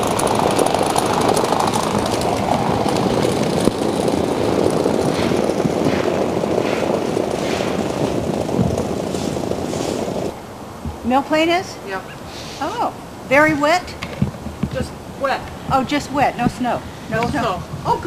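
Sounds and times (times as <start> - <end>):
low rushing noise: 0.0 - 18.0.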